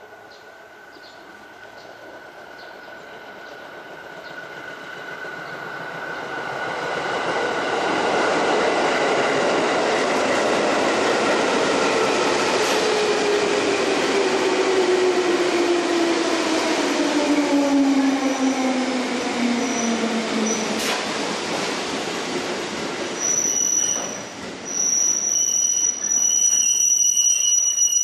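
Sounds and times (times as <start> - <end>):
freight train rumble: 0.1 - 24.7.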